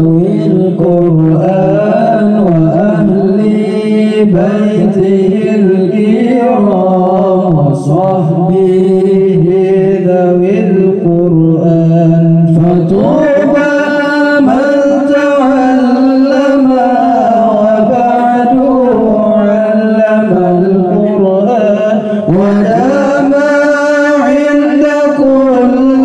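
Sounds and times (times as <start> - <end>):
man chanting into a microphone: 0.0 - 26.0.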